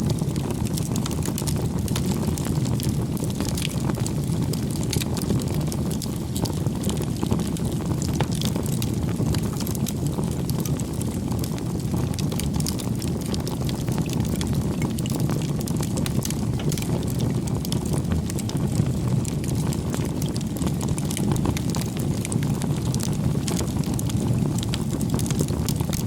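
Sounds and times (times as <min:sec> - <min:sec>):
burning wood crackling: 0:00.0 - 0:26.0
low rumble of flames: 0:00.0 - 0:26.0.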